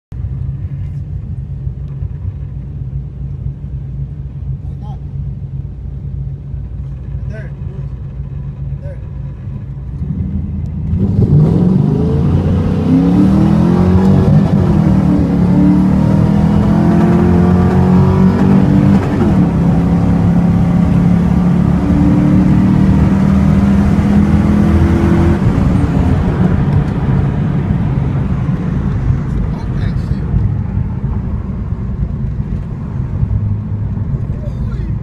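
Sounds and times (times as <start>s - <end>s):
engine at full throttle: 6.3s - 35.0s.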